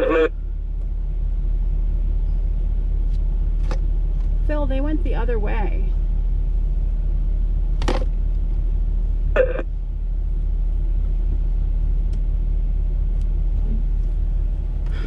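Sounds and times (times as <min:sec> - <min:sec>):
car engine low drone: 0:00.0 - 0:15.0.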